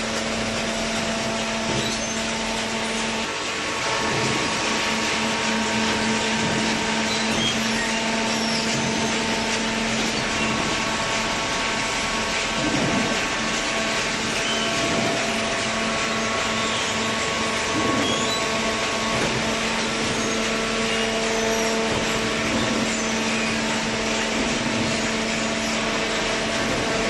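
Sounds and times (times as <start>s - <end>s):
hydraulic baler humming: 0.0s - 27.0s.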